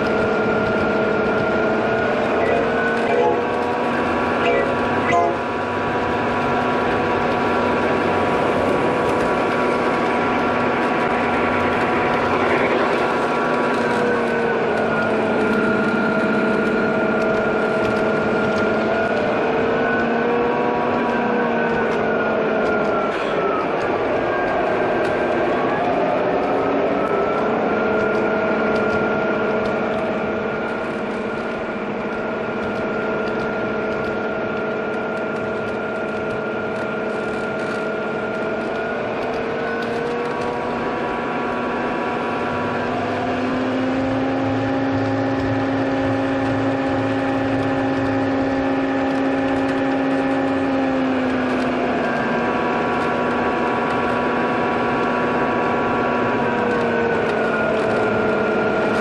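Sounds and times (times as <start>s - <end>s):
drone propellers humming: 0.0s - 59.0s.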